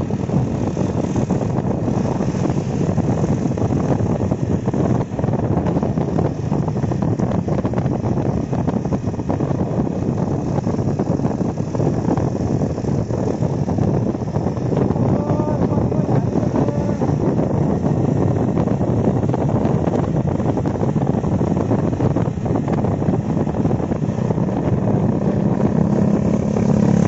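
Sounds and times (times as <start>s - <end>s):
motorcycle engines and tyres: 0.0s - 27.0s
wind buffeting microphone: 0.0s - 27.0s.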